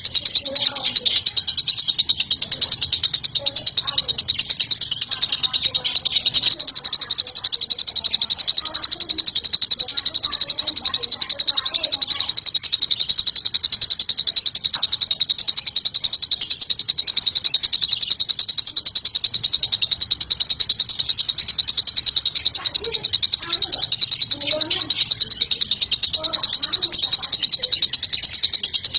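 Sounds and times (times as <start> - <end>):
bird high-pitched trill: 0.0 - 28.9.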